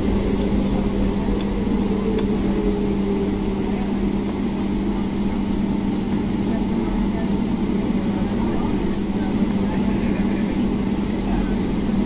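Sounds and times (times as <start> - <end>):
aircraft air-conditioning hum: 0.0 - 12.0.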